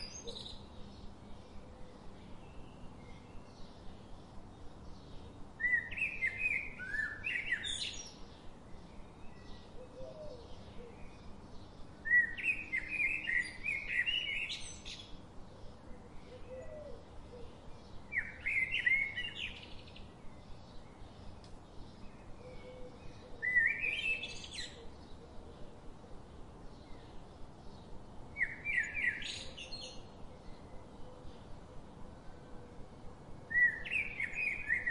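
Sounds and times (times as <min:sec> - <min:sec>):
songbird chirping: 0:00.0 - 0:34.9.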